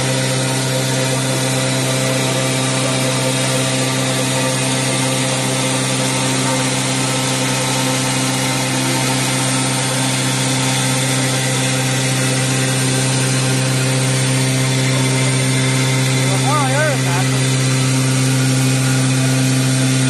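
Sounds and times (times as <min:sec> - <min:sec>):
machine spindle hum: 0:00.0 - 0:20.0.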